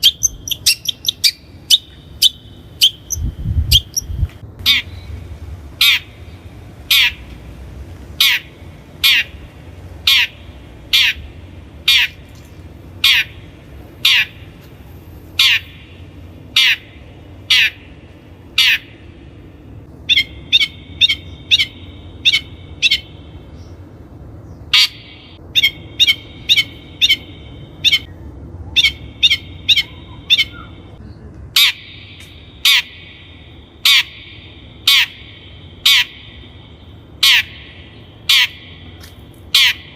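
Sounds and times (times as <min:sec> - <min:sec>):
bird harsh scolding calls: 0:00.0 - 0:07.3, 0:08.2 - 0:12.3, 0:13.0 - 0:14.5, 0:15.4 - 0:19.1, 0:20.0 - 0:23.7, 0:24.7 - 0:28.1, 0:28.8 - 0:31.0, 0:31.6 - 0:39.9.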